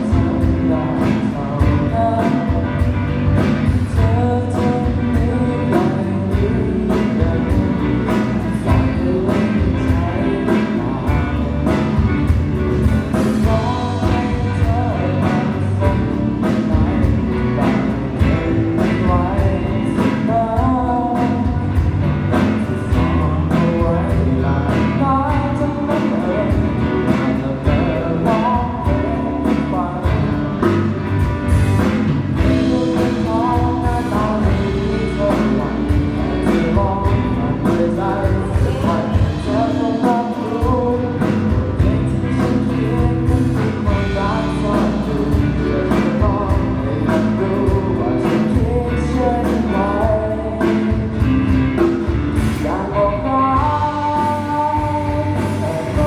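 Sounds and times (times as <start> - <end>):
steady drum beat: 0.0 - 52.8, 53.6 - 56.0
guitar: 0.0 - 56.0
person singing: 0.0 - 56.0.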